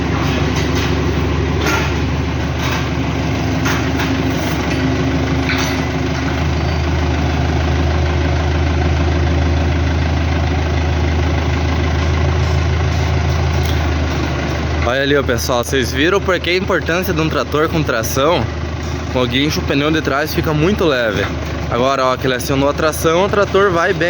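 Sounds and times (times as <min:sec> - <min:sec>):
tractor diesel engine drone: 0:00.0 - 0:24.0.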